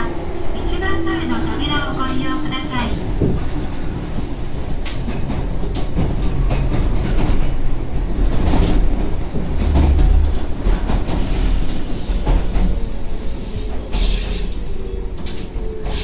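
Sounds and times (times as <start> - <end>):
train wheels rumbling on rails: 0.0 - 16.0
track knocks: 1.6 - 16.0.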